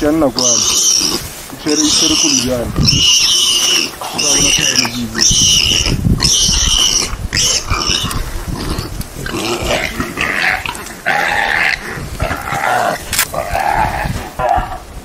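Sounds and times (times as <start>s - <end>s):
growling and scuffling: 0.1s - 14.9s
warthog squealing: 0.3s - 14.8s.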